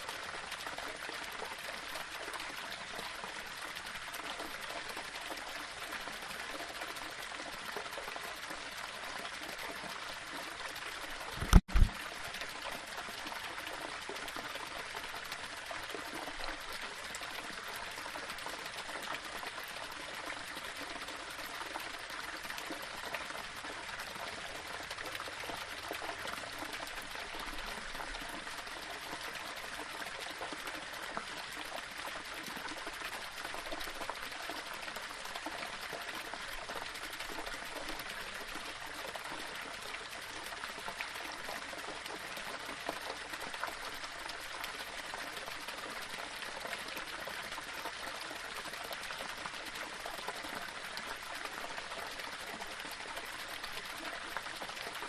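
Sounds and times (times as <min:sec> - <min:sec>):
waterfall splashing over rocks: 0:09.2 - 0:55.0.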